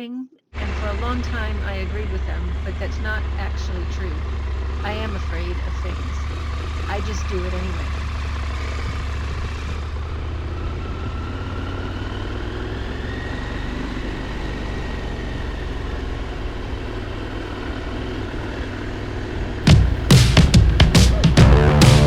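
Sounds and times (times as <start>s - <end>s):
motorcycle engine running: 0.6s - 22.0s.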